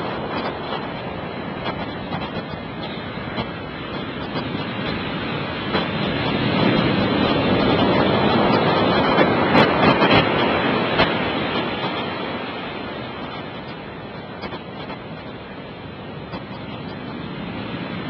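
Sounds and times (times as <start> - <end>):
sharp crackles of surf: 0.0 - 18.0.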